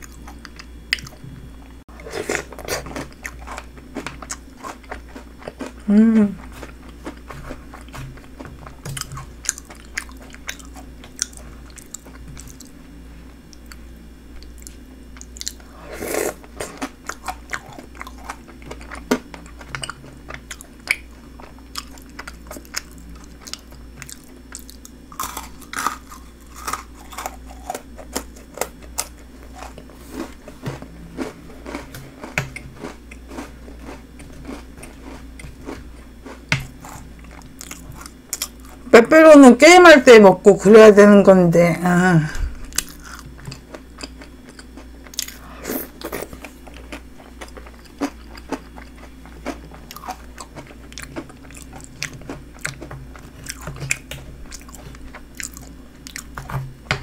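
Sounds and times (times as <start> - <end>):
crisp chewing crunches: 2.0 - 12.8, 14.4 - 15.7, 16.3 - 38.9, 42.6 - 56.5.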